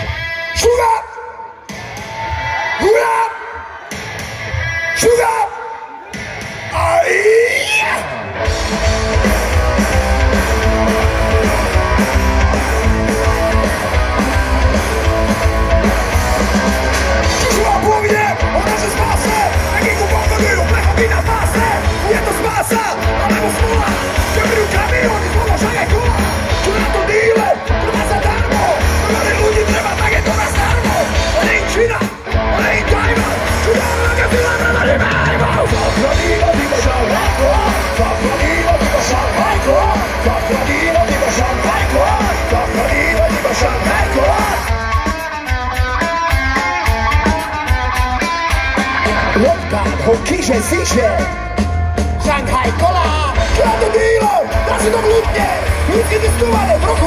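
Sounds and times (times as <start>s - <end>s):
live punk rock band playing: 0.0s - 57.0s
people yelling and singing: 0.0s - 57.0s.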